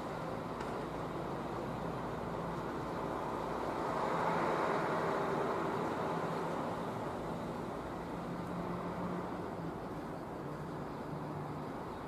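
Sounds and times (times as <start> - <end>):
vehicle rumble and hiss: 0.0 - 12.0.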